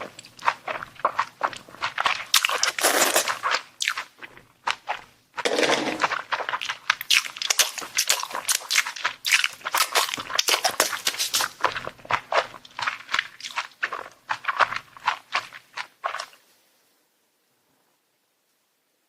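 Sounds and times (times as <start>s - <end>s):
person chewing and crunching food: 0.0s - 16.5s.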